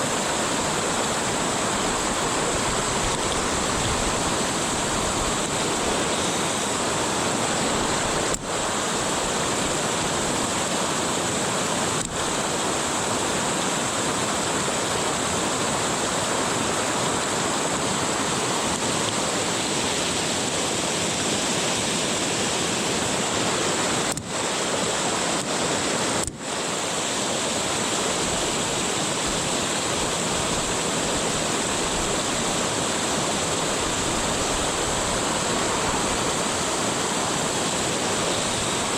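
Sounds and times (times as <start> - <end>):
river water rushing over rapids: 0.0 - 38.9.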